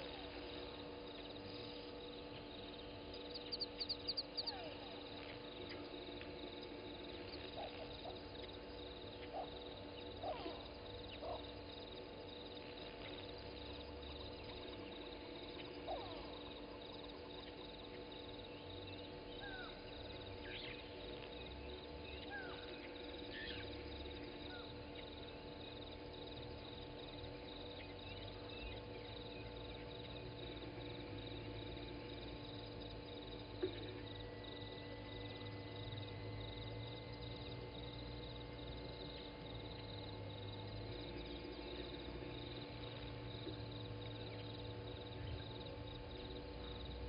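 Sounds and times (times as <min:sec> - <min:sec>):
steady background hum: 0:00.0 - 0:47.0.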